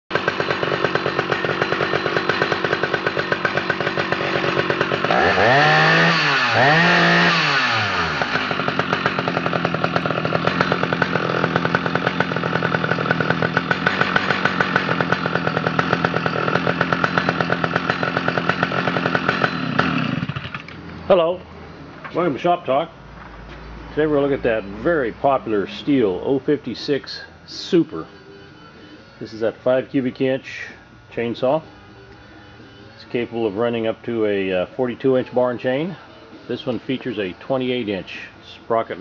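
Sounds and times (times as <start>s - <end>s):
chainsaw idling and revving: 0.1s - 21.4s, 23.8s - 28.4s, 29.0s - 39.0s.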